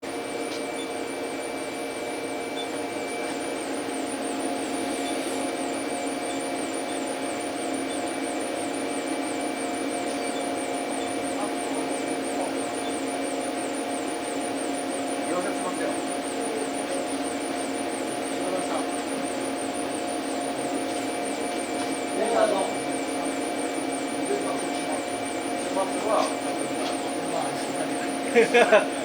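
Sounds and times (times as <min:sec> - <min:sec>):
machinery whirring: 0:00.1 - 0:29.0.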